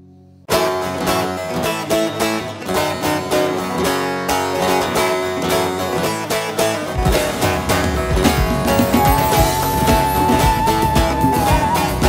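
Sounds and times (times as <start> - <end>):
long-necked lute strummed and picked: 0.5 - 12.0.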